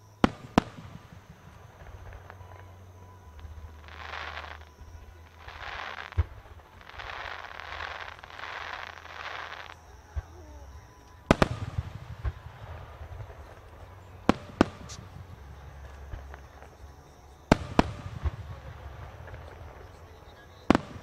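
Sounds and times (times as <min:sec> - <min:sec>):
fireworks hissing: 0:00.0 - 0:21.0
low rumble: 0:00.0 - 0:21.0.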